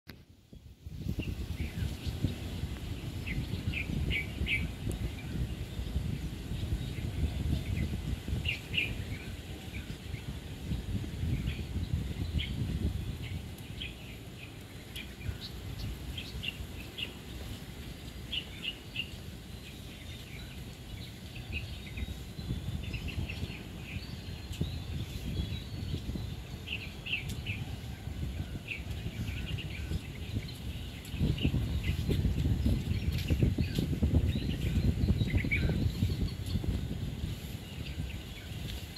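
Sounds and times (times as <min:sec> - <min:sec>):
small birds chirping: 0:00.5 - 0:38.9.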